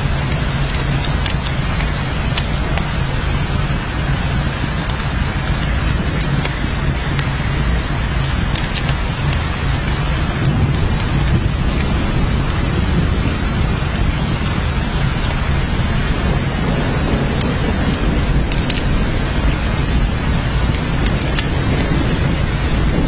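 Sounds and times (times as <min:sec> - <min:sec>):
deep rumble: 0:00.0 - 0:23.0
heavy rainfall: 0:00.0 - 0:23.0.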